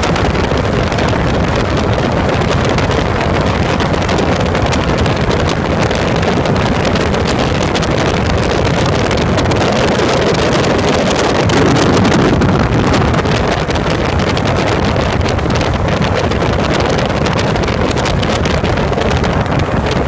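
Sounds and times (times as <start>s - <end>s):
aircraft engine drone: 0.0s - 20.0s
wind rushing over microphone: 0.0s - 20.0s.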